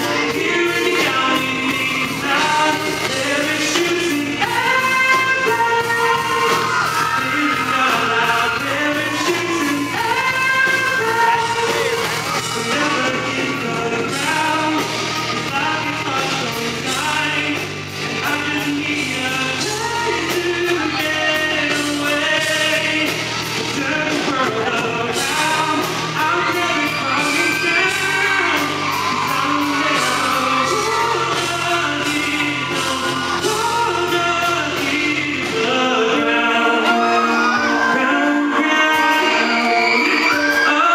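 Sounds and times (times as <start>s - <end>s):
steady drum beat: 0.0s - 36.3s
full band playing: 0.0s - 40.9s
man singing into a microphone: 0.0s - 40.9s.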